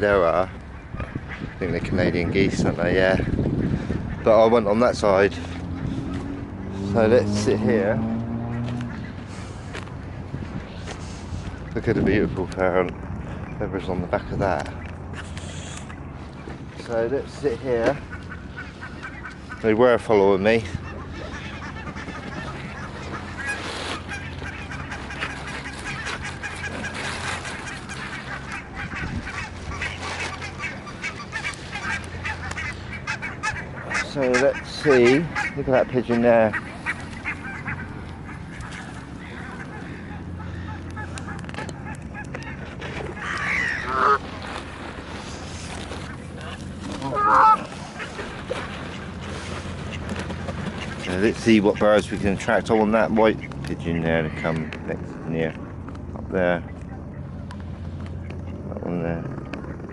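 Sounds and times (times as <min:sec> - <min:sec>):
geese honking: 0:00.0 - 0:55.8, 0:56.4 - 0:59.9
low steady hum: 0:00.0 - 0:59.9.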